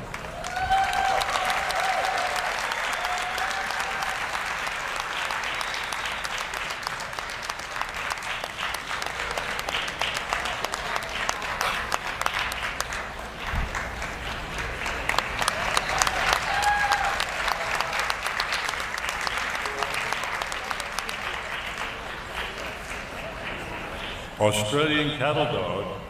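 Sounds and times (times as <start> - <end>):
audience applauding: 0.0 - 24.4.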